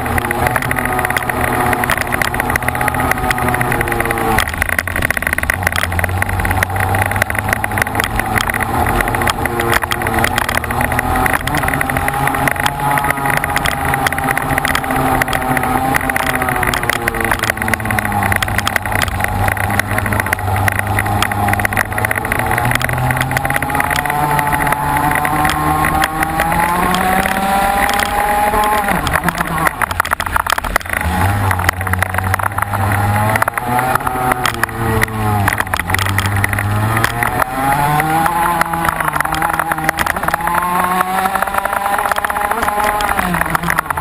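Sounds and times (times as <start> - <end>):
racing engine revving: 0.0 - 44.0.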